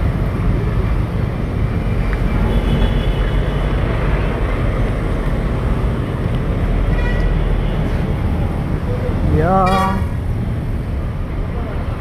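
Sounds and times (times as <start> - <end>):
busy road traffic rumble: 0.0 - 12.0
motorcycles passing: 0.0 - 12.0.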